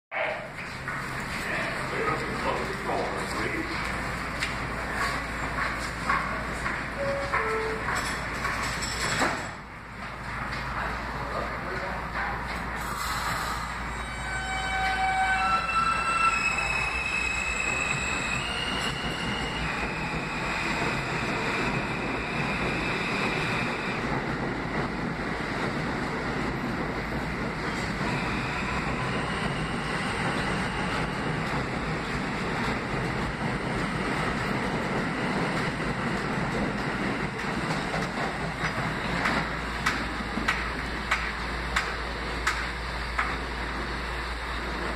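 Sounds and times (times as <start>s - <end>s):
train wheels rumbling on rails: 0.4s - 44.9s.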